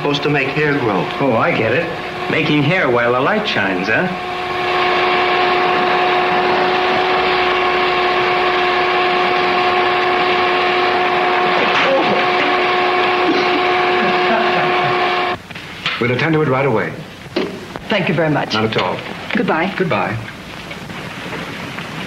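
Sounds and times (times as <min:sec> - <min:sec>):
loud steady electric hum: 0:00.0 - 0:22.0.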